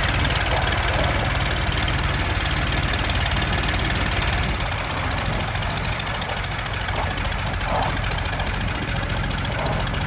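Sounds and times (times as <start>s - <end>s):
tractor diesel engine knocking: 0.0s - 10.0s.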